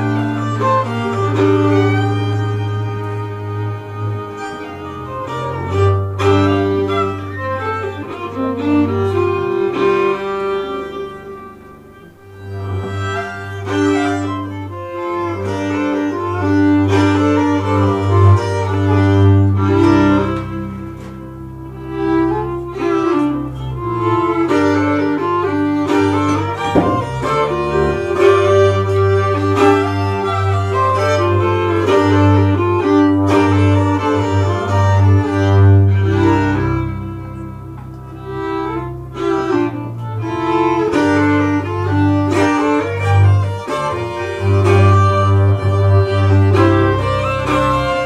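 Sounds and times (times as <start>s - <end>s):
double bass line: 0.0s - 48.0s
fiddles playing folk tune: 0.0s - 48.0s.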